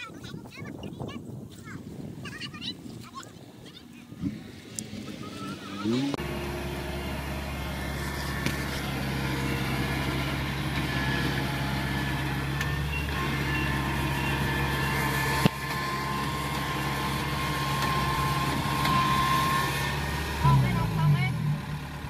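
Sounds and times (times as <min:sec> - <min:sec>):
diesel engine running: 0:04.2 - 0:22.0.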